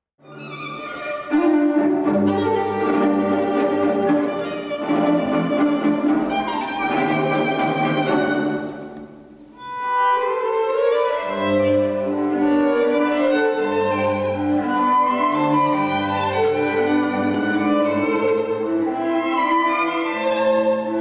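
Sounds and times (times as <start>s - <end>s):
violin melody in long notes: 0.2s - 21.0s.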